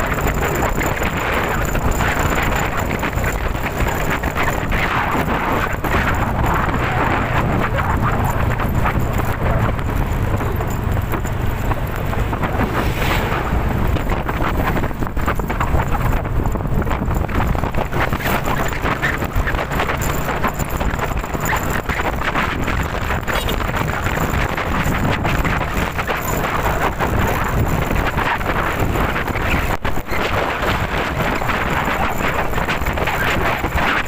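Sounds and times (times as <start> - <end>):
strong wind gusts: 0.0 - 34.0
wind buffeting microphone: 0.0 - 34.0.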